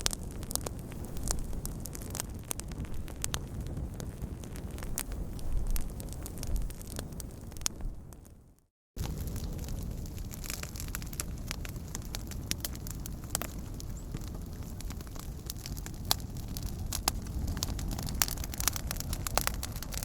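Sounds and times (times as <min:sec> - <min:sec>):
campfire roar: 0:00.0 - 0:20.0
fire pops and snaps: 0:00.0 - 0:20.0.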